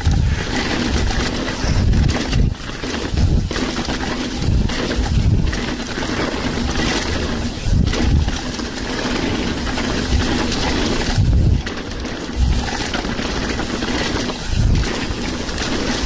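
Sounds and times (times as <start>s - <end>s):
bike tyres and drivetrain: 0.0s - 16.0s
wind buffeting microphone: 0.0s - 16.0s.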